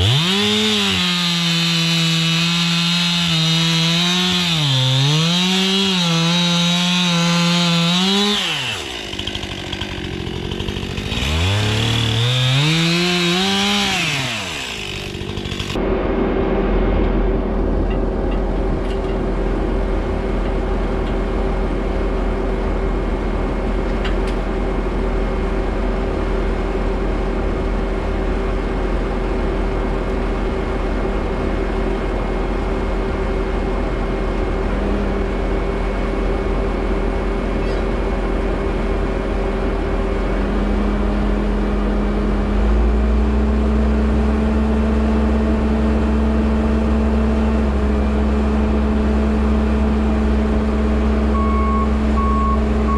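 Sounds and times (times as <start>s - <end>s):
skid steer engine running: 0.0s - 52.9s.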